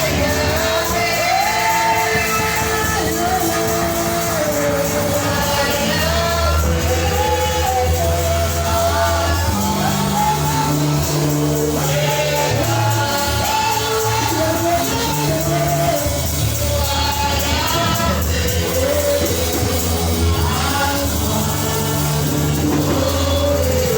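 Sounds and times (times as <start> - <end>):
band playing worship music: 0.0 - 23.9
person singing: 0.0 - 23.9.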